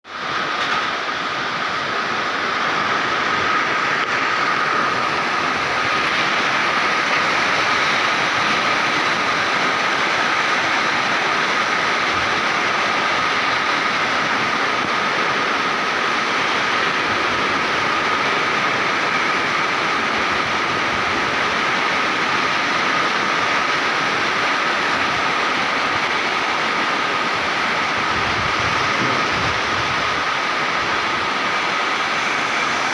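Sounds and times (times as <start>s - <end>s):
storm wind roaring: 0.1s - 32.9s.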